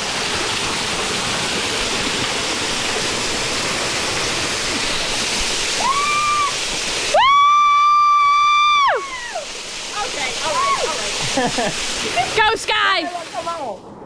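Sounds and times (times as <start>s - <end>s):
waterfall pouring: 0.0s - 13.8s.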